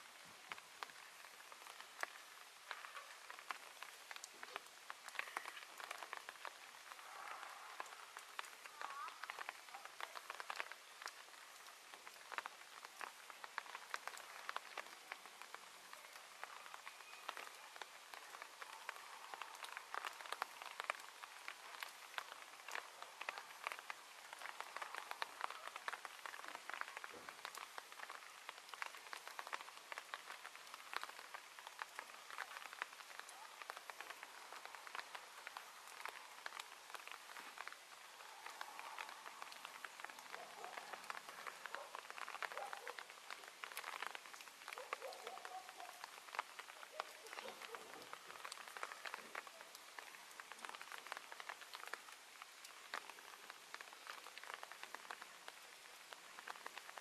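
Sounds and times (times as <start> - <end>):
faint pattering and crackling: 0.4 - 57.0.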